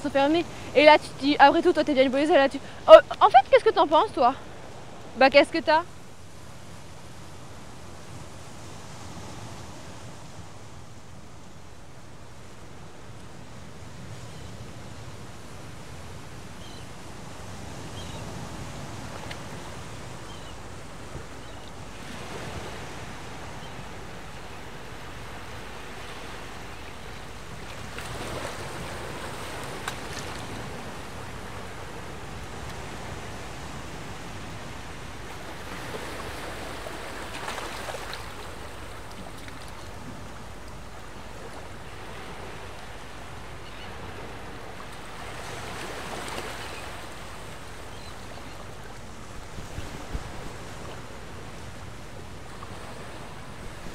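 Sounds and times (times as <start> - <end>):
wind: 0.0 - 53.9.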